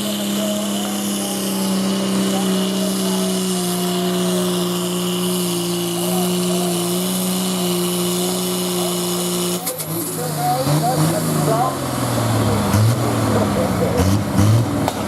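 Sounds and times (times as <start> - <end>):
tractor engine under load: 0.0 - 15.0.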